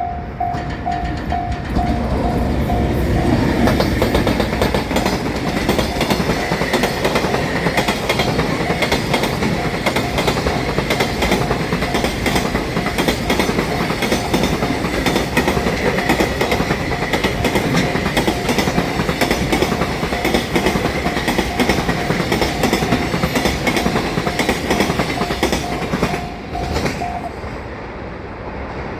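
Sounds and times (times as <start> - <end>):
train wheels clattering on rails: 0.0 - 27.7.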